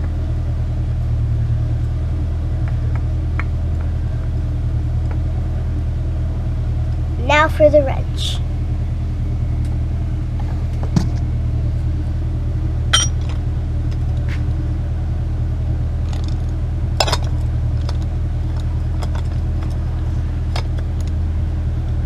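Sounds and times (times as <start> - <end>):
low engine-like rumble: 0.0 - 22.0.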